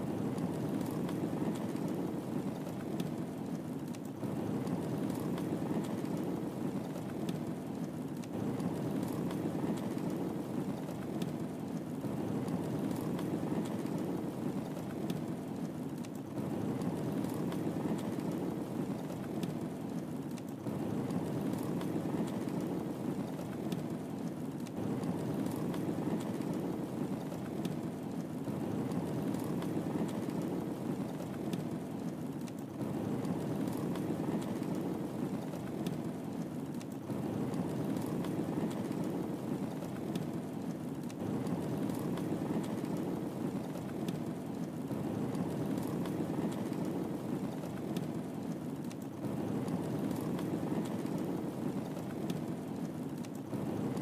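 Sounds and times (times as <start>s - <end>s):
fire crackles and pops: 0.0s - 54.0s
fire flame rumble: 0.0s - 54.0s.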